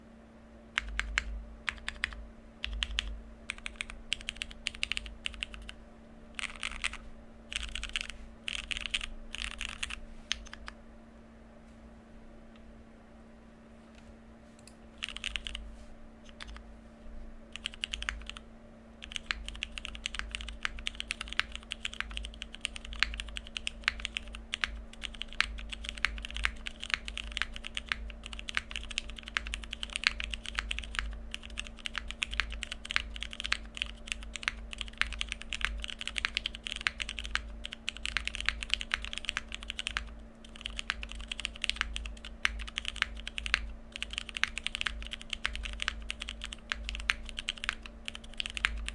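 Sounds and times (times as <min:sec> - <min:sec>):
mechanical keyboard typing clacks: 0:00.8 - 0:05.8, 0:06.4 - 0:10.7, 0:15.0 - 0:15.6, 0:17.6 - 0:18.4, 0:19.0 - 0:48.9.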